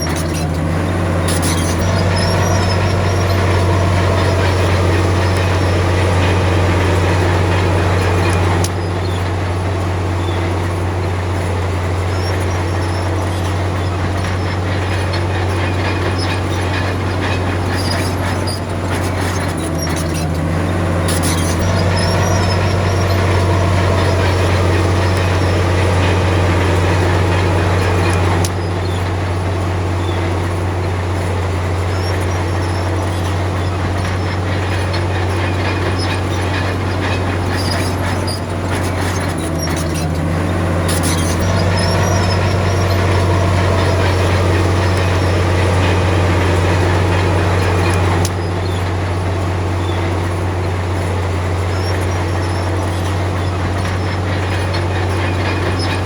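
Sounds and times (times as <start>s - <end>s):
bulldozer diesel engine drone: 0.0s - 56.0s
metallic rattle: 0.0s - 56.0s.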